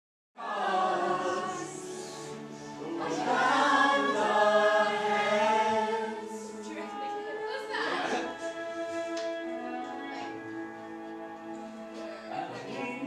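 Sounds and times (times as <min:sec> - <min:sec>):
choir singing in harmony: 0:00.4 - 0:13.0.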